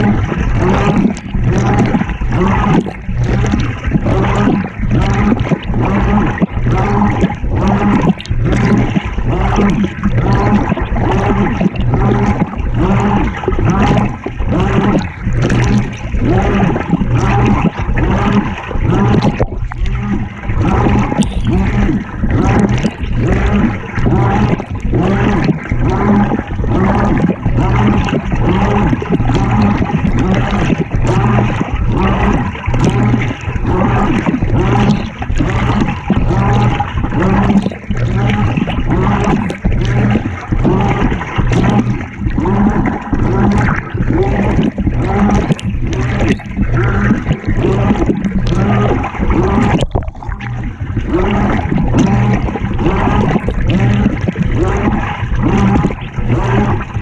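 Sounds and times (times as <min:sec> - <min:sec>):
low motor hum: 0:00.0 - 0:57.0
water and laundry sloshing: 0:00.0 - 0:57.0.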